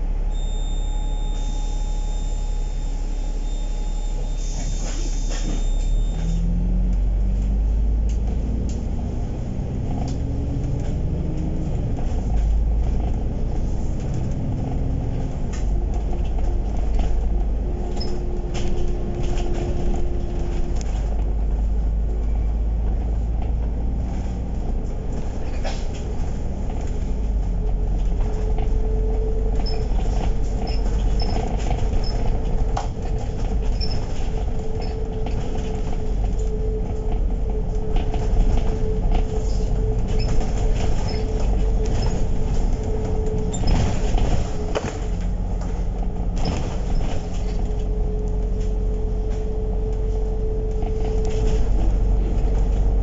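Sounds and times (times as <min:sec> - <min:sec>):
bus engine rumbling: 0:00.0 - 0:53.0
drivetrain whine: 0:00.0 - 0:53.0.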